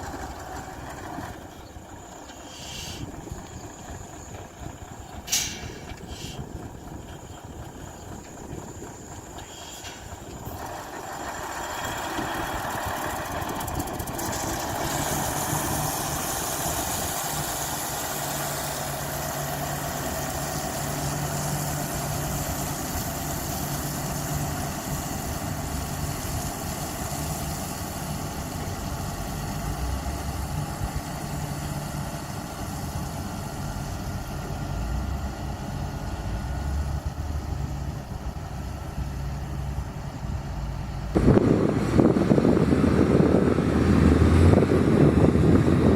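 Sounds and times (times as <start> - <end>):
diesel engine of heavy machinery: 0.0 - 45.9.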